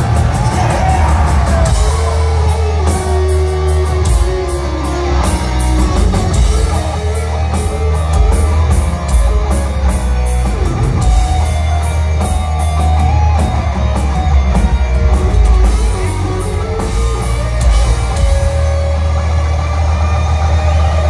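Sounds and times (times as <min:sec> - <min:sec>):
bass guitar: 0:00.0 - 0:21.0
distorted electric guitars: 0:00.0 - 0:21.0
drum kit with cymbal hits: 0:00.0 - 0:21.0.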